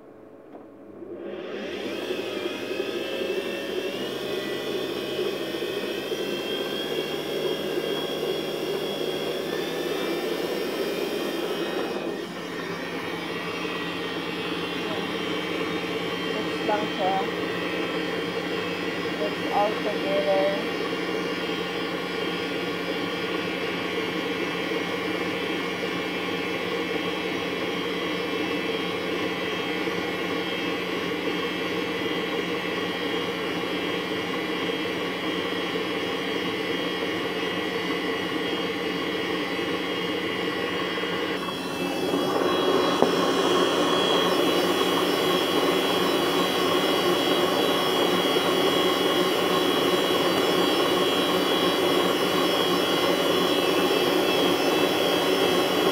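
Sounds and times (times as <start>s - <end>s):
electric mixer whining: 0.9s - 55.9s.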